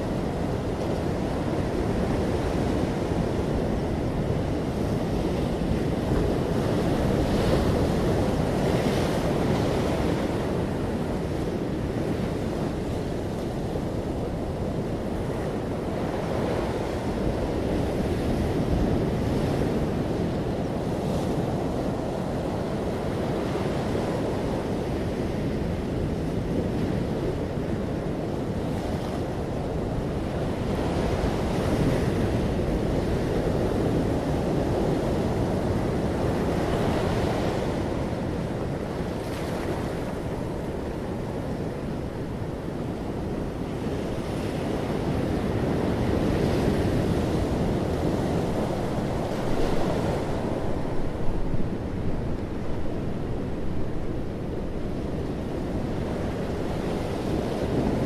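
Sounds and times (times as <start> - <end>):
waves breaking on shore: 0.0 - 58.0.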